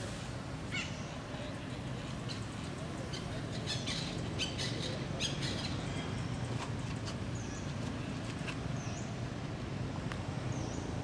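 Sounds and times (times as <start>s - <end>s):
low background noise: 0.0s - 11.0s
small birds chirping: 0.7s - 9.4s, 10.4s - 11.0s.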